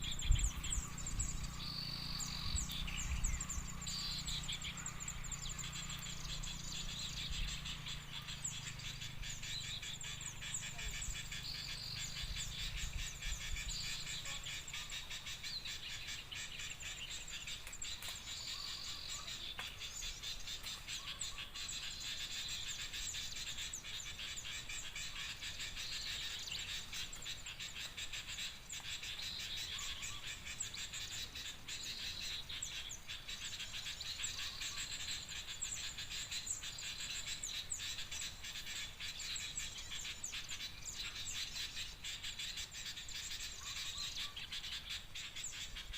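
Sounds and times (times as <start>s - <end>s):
small birds chirping and chattering: 0.0s - 45.9s.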